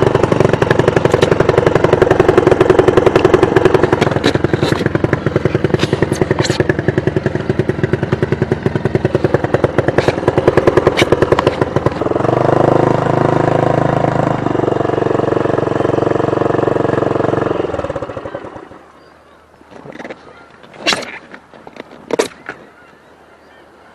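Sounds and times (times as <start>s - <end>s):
outboard motor running: 0.0s - 22.9s.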